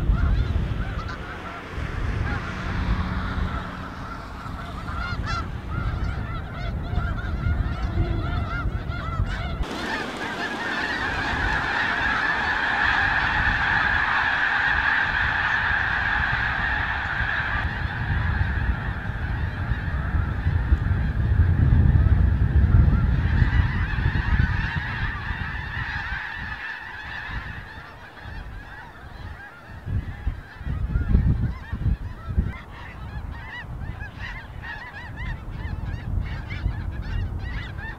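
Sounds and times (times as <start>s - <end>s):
flock of geese honking: 0.0s - 37.9s.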